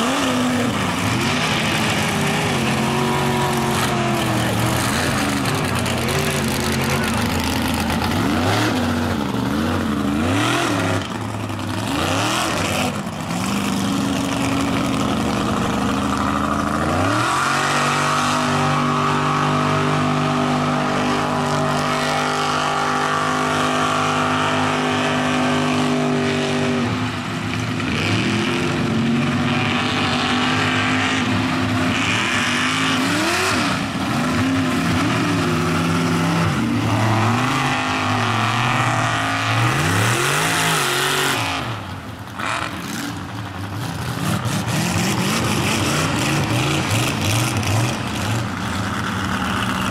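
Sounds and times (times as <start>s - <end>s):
truck engines revving: 0.0s - 49.9s.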